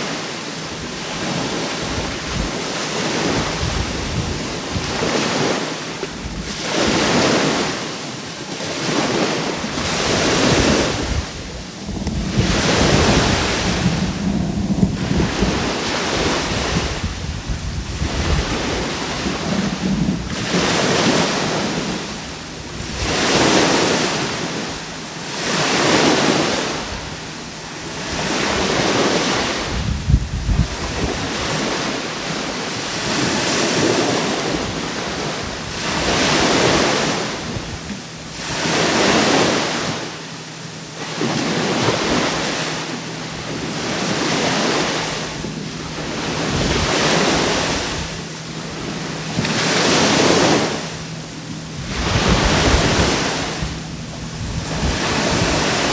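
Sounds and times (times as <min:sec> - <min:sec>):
sea waves breaking on shore: 0:00.0 - 0:55.9
wind buffeting microphone: 0:00.6 - 0:07.8, 0:08.8 - 0:55.9.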